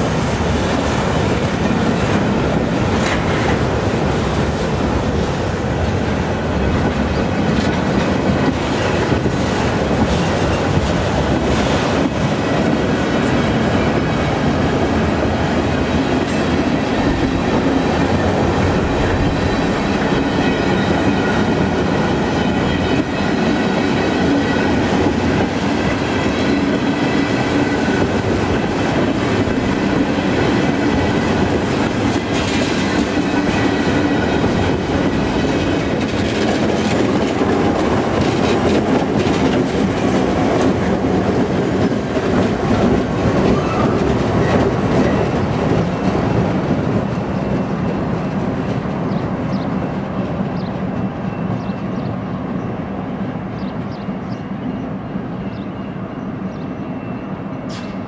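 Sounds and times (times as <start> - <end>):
clickety-clack of train: 0.0 - 58.0
train wheels rumbling on rails: 0.0 - 58.0.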